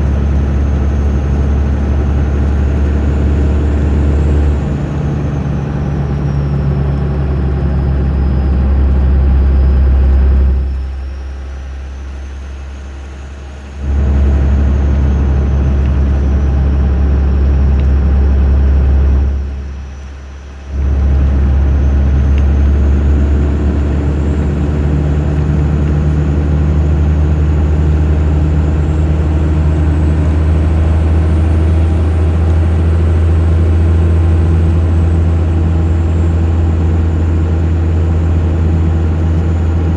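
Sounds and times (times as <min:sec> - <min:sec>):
turbo whistle: 0:00.0 - 0:32.1
diesel engine drone: 0:00.0 - 0:39.9.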